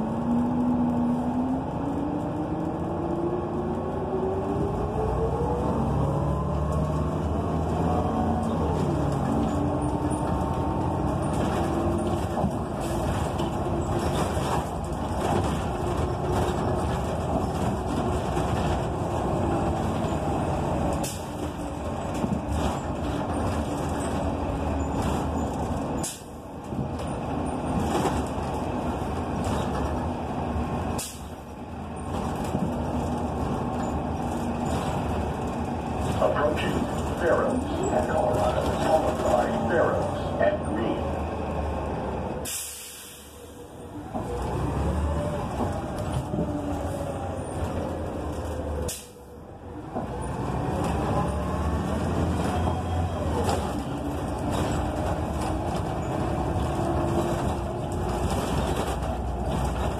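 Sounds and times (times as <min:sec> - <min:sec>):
bus engine and drivetrain: 0:00.0 - 0:59.9.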